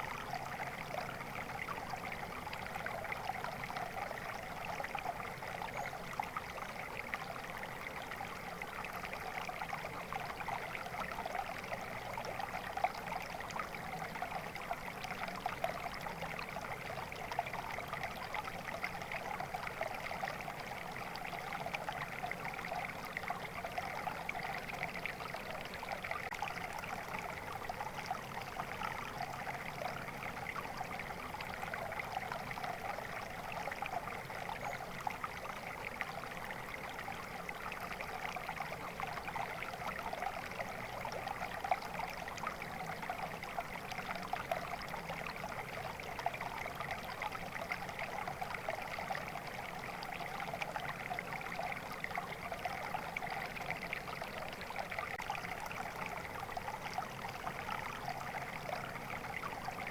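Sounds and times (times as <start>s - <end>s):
stream of water babbling: 0.0s - 59.9s.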